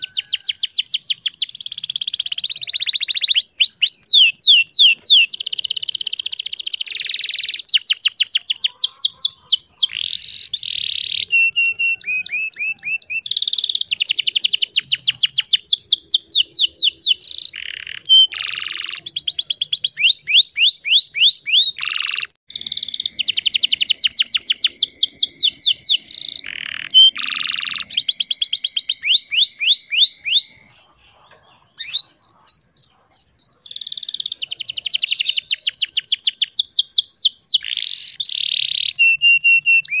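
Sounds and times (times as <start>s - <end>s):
canary singing trills: 0.0s - 40.0s.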